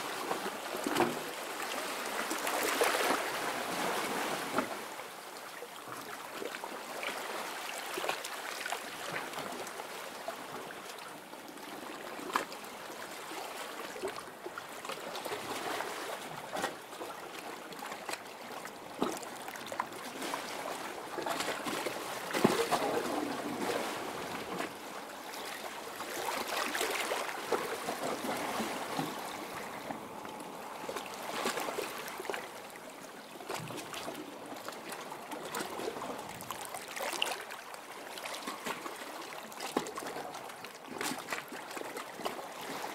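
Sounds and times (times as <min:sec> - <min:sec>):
sea water splashing over rocks: 0:00.0 - 0:42.9.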